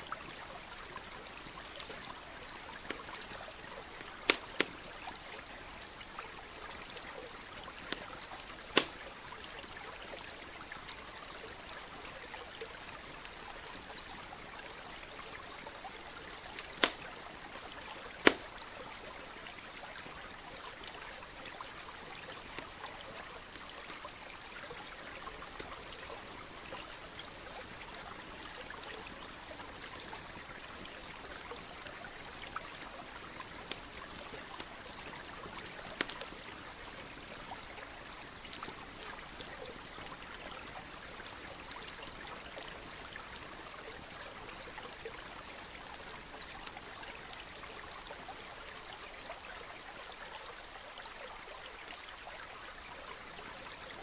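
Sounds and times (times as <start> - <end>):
campfire crackling and popping: 0.0 - 50.8, 52.7 - 54.0
stream flowing: 0.0 - 54.0.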